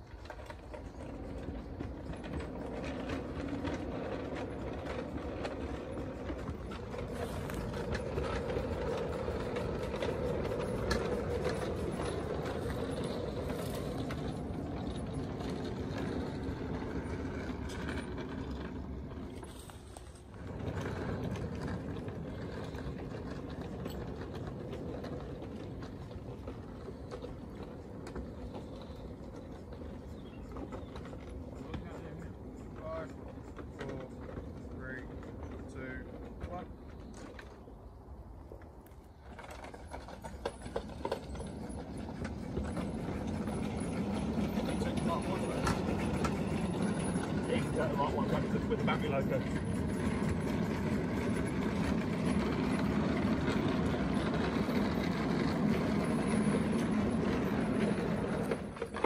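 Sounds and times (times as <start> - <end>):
wheels clattering on track: 0.0 - 59.0.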